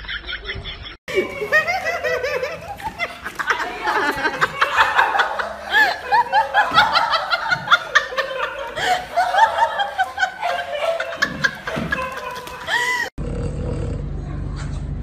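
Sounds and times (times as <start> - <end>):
person laughing: 0.0 - 13.1.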